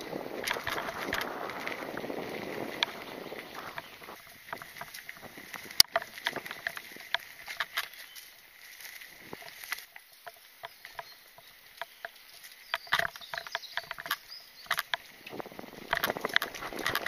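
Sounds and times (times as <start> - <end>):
bike clicking and rattling: 0.0 - 17.0.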